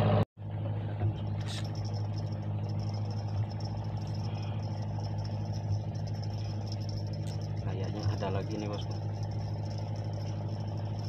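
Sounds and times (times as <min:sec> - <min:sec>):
engine-like drone: 0:00.0 - 0:11.0
faint high whine: 0:01.1 - 0:11.0.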